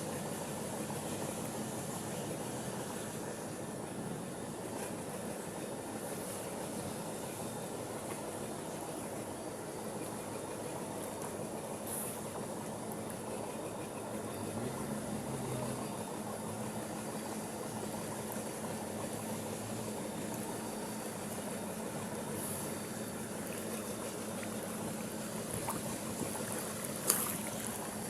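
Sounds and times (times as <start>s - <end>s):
outdoor noise: 0.0s - 28.0s.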